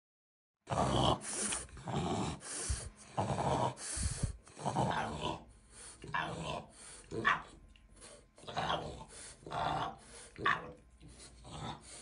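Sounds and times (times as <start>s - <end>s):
noisy snoring-like breathing: 0.7s - 12.0s.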